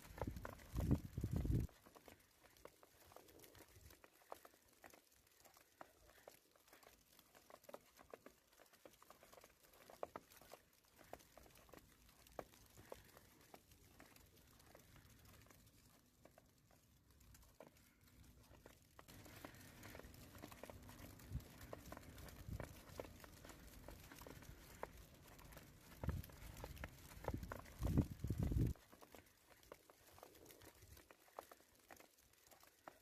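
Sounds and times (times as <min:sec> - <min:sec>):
faint soft ticks and crackles: 0:00.0 - 0:33.0.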